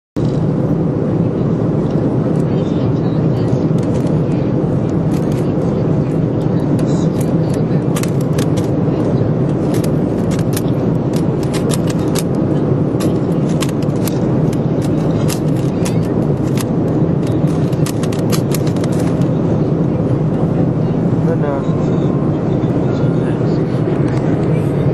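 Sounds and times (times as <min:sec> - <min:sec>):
airliner cabin drone: 0:00.2 - 0:24.9.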